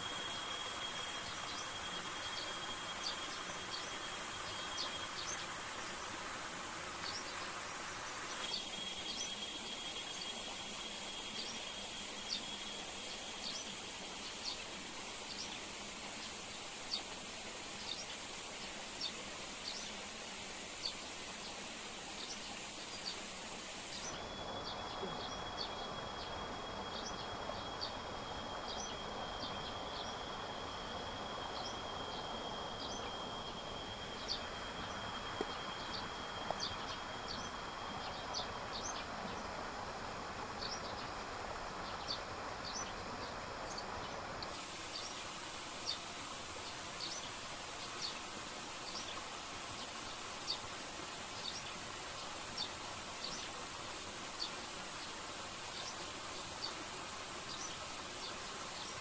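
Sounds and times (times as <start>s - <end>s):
high insect drone: 0.0s - 59.0s
steady rushing hiss: 0.0s - 59.0s.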